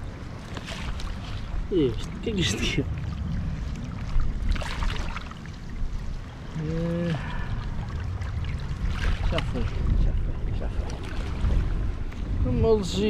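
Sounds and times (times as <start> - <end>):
water splashing and trickling: 0.0 - 13.0
wind buffeting microphone: 0.0 - 13.0.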